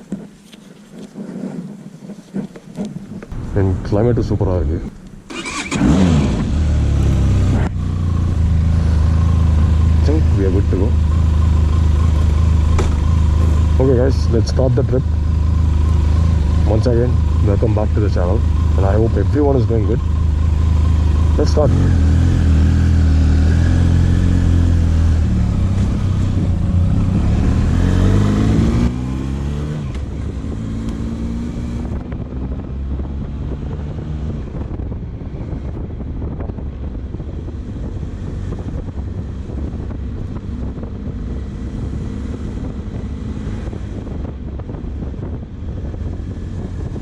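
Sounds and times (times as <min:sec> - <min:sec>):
road noise: 0:00.0 - 0:47.0
motorcycle engine accelerating: 0:02.8 - 0:47.0.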